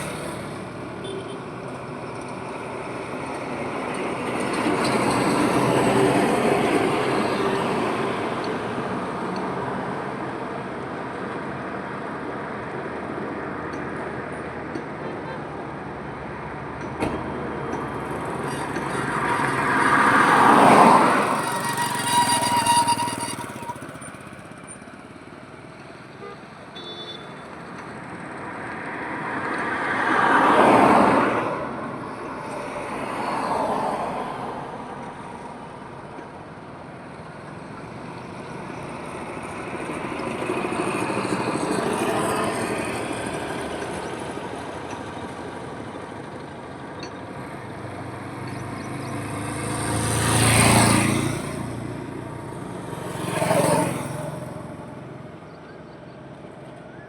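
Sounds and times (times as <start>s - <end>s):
vehicles passing: 0.0s - 26.7s, 27.5s - 57.0s
steady road noise: 0.0s - 57.0s.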